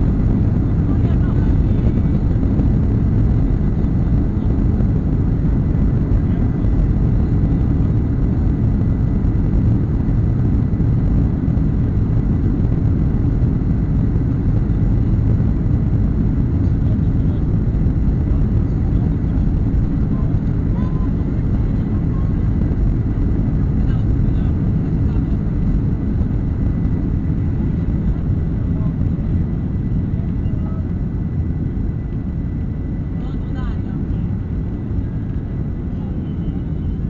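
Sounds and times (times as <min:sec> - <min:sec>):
faint high whine: 0:00.0 - 0:37.0
jet engine cabin rumble: 0:00.0 - 0:37.0.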